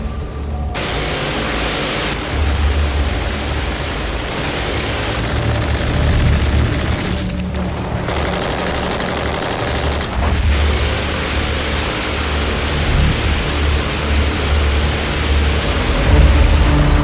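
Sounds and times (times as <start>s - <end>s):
music: 0.0s - 17.0s
rapid machine-gun fire: 0.8s - 17.0s.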